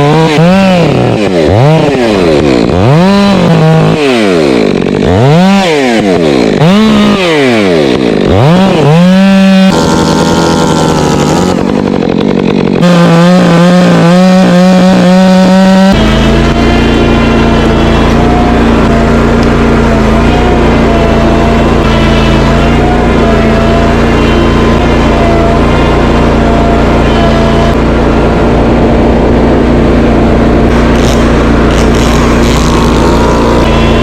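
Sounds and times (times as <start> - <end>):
chainsaw engine revving: 0.0 - 34.0.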